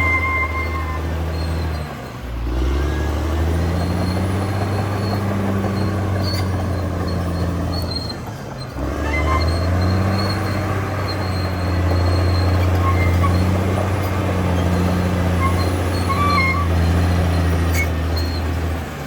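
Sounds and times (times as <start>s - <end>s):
faint high squeaks: 0.0s - 2.2s, 3.8s - 18.6s
bulldozer diesel engine under load: 0.0s - 19.0s.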